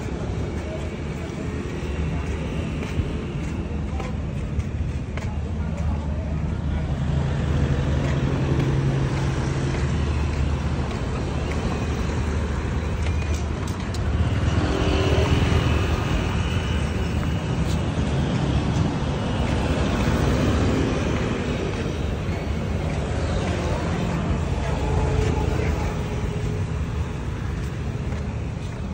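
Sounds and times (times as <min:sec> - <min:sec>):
road traffic: 0:00.0 - 0:28.9.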